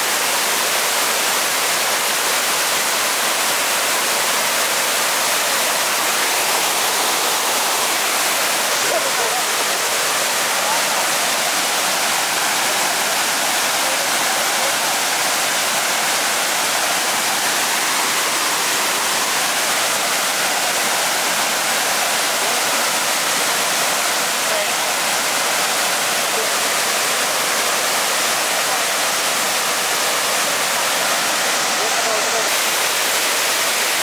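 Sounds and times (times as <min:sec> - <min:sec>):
waterfall rushing into pool: 0:00.0 - 0:34.0.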